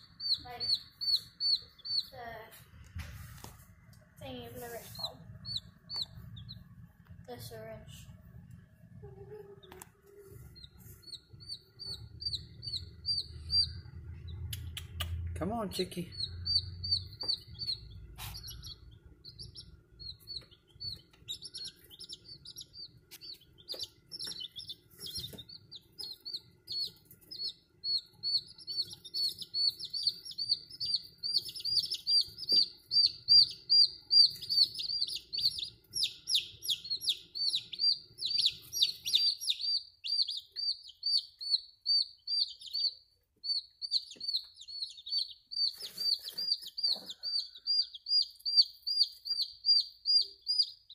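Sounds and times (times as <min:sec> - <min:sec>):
chick peeping: 0:00.0 - 0:02.2, 0:04.7 - 0:06.7, 0:09.1 - 0:50.9.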